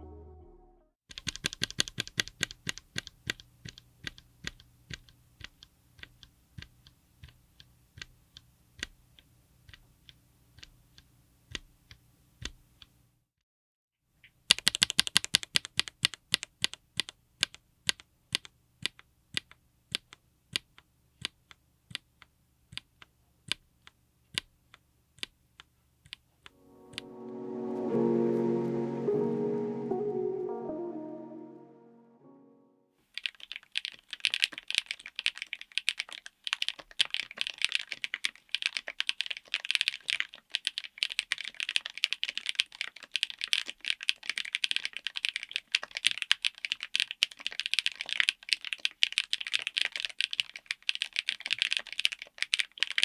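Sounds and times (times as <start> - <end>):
mechanical keyboard typing: 1.1 - 13.0, 14.4 - 27.0, 33.2 - 53.0.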